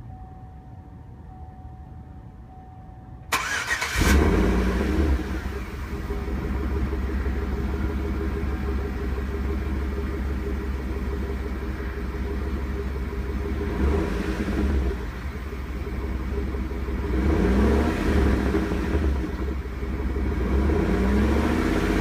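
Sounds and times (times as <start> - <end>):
car engine exhaust rumble: 3.2 - 22.0.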